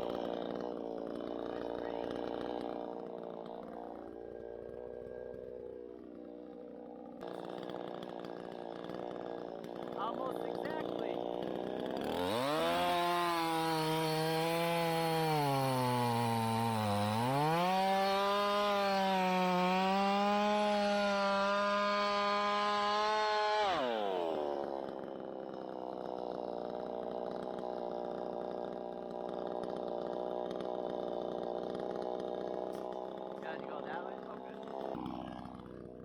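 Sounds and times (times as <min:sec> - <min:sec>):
chainsaw cutting wood: 0:00.0 - 0:36.0
chainsaw idling hum: 0:00.0 - 0:36.0.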